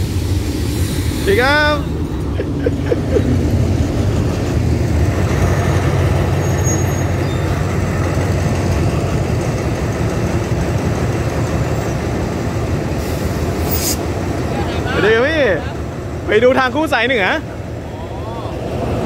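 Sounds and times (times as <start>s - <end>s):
locomotive engine idling: 0.0s - 19.0s.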